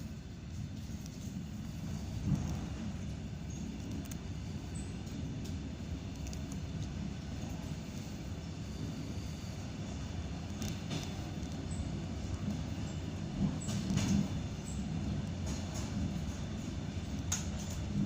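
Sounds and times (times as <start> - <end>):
train interior rumble: 0.0 - 18.0.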